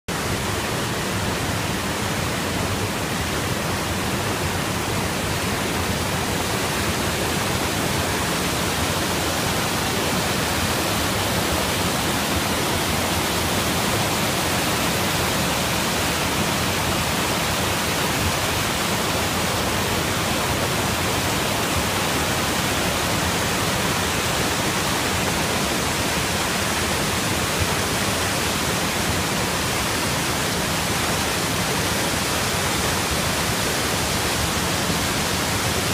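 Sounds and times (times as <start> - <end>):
water rushing over a weir: 0.1 - 35.9.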